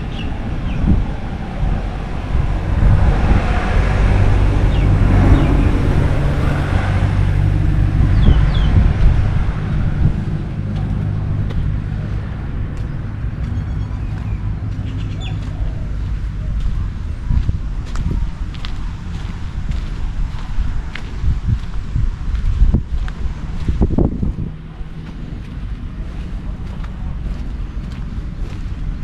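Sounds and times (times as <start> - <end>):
passing vehicle engine hum: 0.0 - 29.0.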